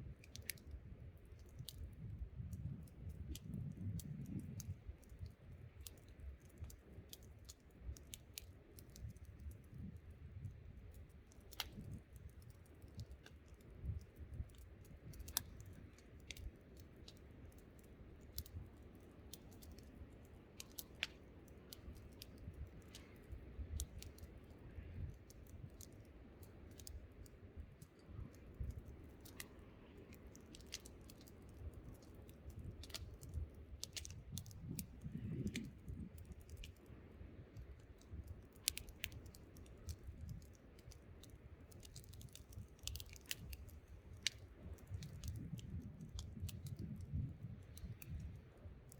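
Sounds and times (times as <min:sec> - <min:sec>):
campfire crackling and popping: 0:00.0 - 0:48.9
low wind rumble: 0:00.8 - 0:07.1, 0:13.7 - 0:48.9.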